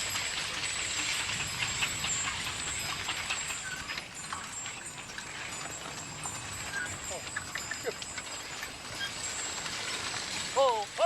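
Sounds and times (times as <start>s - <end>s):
open-air background hiss: 0.0s - 11.0s.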